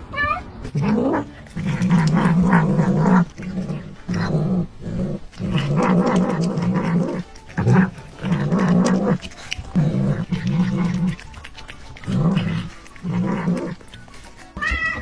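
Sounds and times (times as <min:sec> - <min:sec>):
cat growling while eating: 0:00.6 - 0:15.0.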